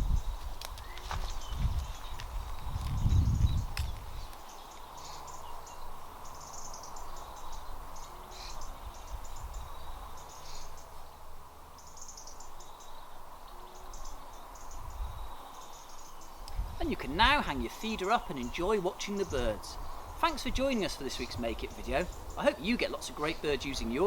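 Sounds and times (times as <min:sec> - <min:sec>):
small birds twittering: 0:00.0 - 0:24.0.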